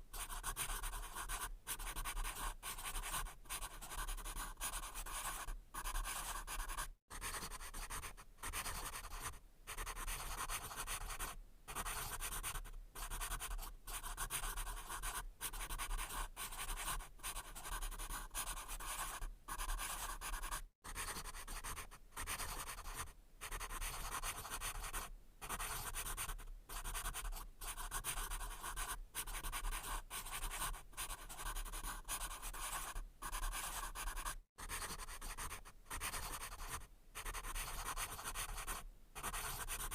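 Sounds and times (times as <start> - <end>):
pencil scratching on paper: 0.1 - 39.9.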